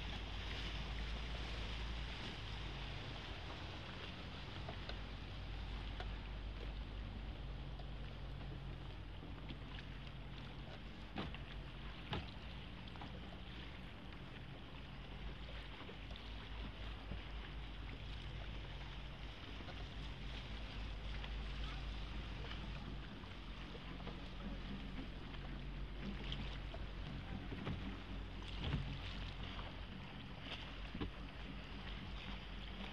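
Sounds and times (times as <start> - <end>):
boat engine humming: 0.0 - 32.9
water lapping and splashing: 0.0 - 32.9
wooden oar rowing: 0.0 - 32.9.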